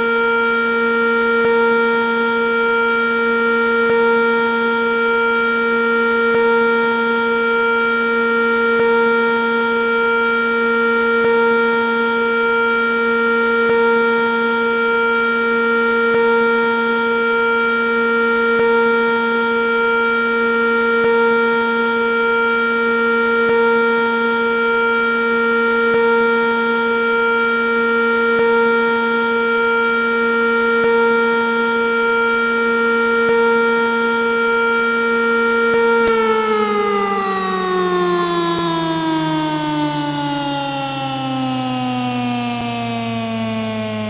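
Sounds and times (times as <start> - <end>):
electromechanical siren steady tone: 0.0 - 44.0.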